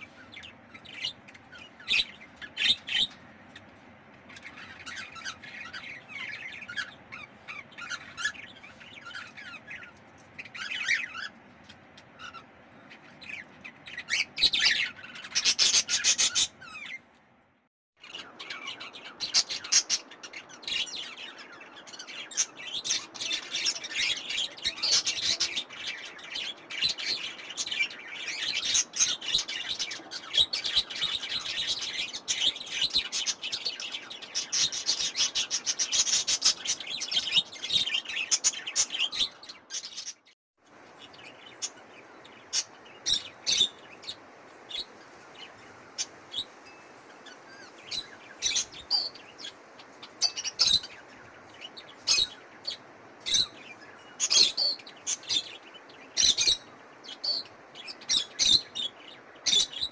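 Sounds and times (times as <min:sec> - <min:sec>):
parrots chattering and chirping: 0:00.0 - 0:17.0, 0:18.0 - 0:59.9.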